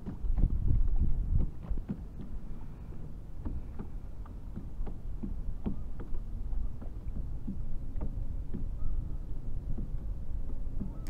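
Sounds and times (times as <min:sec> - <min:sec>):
water lapping against kayak hull: 0:00.0 - 0:11.0.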